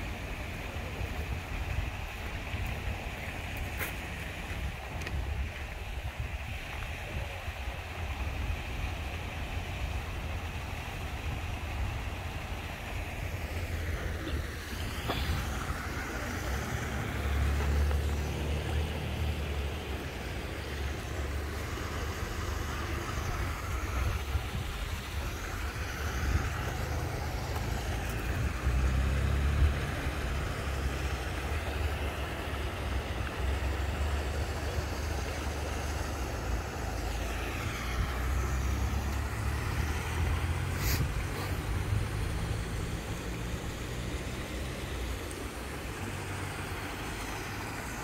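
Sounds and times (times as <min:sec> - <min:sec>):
steady outdoor hiss: 0:00.0 - 0:48.0.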